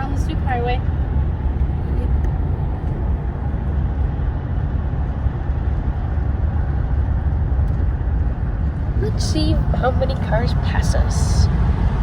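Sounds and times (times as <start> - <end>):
car cruising at highway speed: 0.0 - 12.0.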